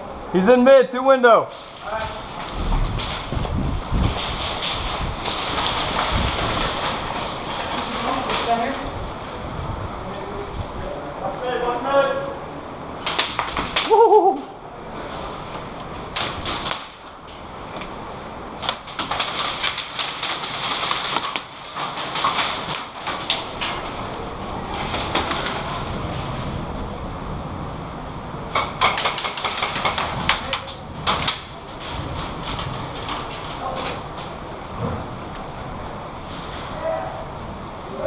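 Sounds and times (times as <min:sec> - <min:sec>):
outdoor noise: 0:00.0 - 0:38.0.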